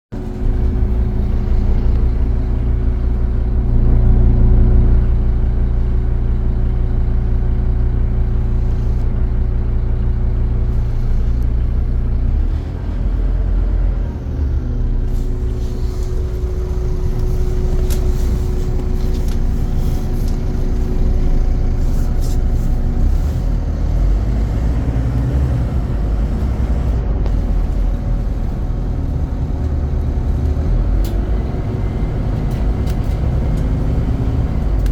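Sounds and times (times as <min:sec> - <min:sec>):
bus engine droning: 0:00.1 - 0:34.9
engine whine: 0:00.1 - 0:34.9.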